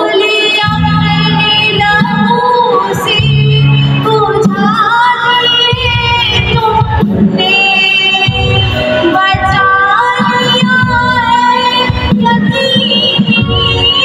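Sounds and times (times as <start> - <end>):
live rock band: 0.0 - 14.0
woman singing into microphone: 0.0 - 14.0.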